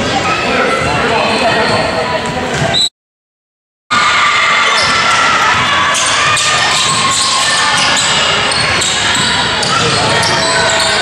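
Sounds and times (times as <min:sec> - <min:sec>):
players and small crowd: 0:00.0 - 0:02.9, 0:03.9 - 0:11.0.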